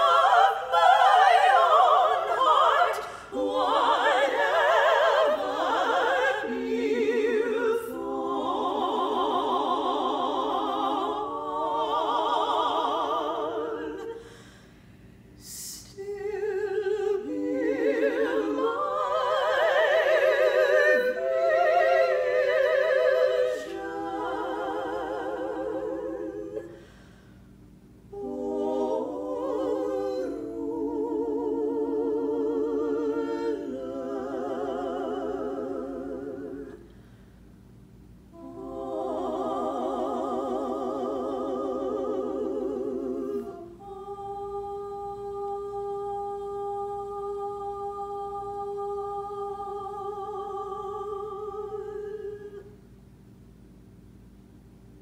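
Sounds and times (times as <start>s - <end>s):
women singing in harmony: 0.0s - 14.4s, 15.4s - 27.0s, 28.1s - 37.0s, 38.3s - 52.8s.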